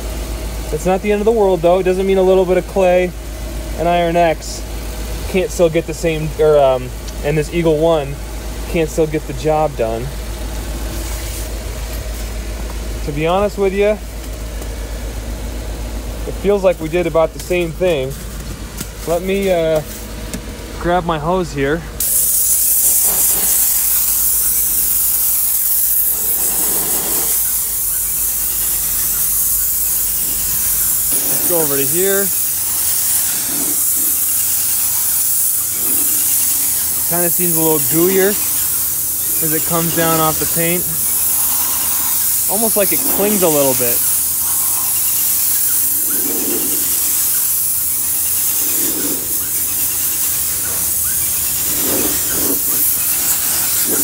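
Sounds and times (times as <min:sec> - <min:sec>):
high-pressure water spraying: 0:03.9 - 0:20.6, 0:22.0 - 0:54.0.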